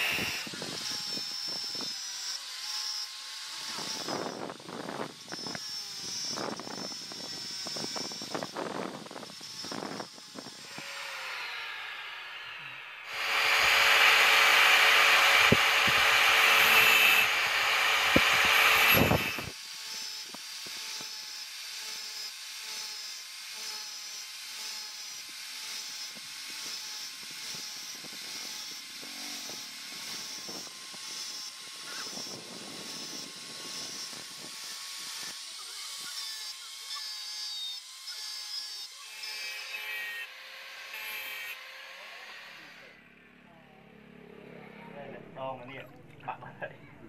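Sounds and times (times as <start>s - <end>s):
angle grinder on steel blade: 0.0s - 43.0s.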